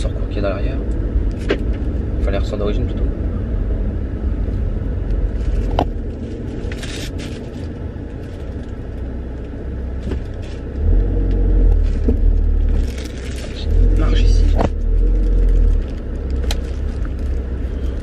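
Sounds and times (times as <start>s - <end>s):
car engine rumble in cabin: 0.0s - 18.0s.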